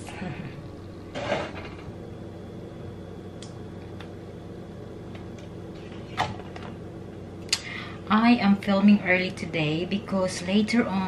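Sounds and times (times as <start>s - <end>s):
mechanical motor hum: 0.0s - 11.0s.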